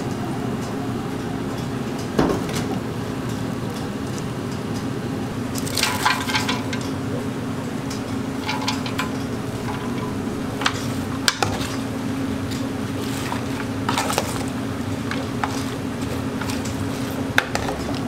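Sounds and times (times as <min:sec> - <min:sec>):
soft wet mixing: 0:00.0 - 0:18.0
steady low hum: 0:00.0 - 0:18.0.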